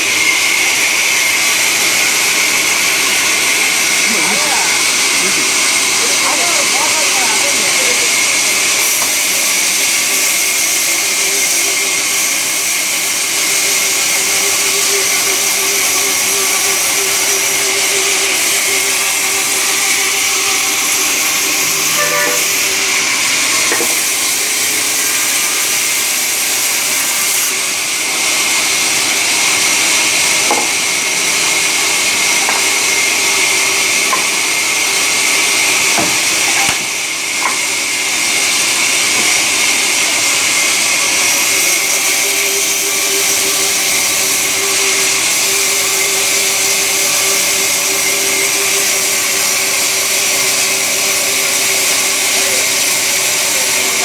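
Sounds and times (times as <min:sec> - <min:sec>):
saw hissing: 0:00.0 - 0:54.0.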